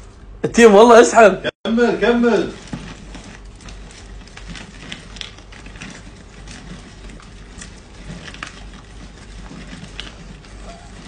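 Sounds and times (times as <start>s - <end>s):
plastic sleeve crinkling: 2.0s - 11.0s.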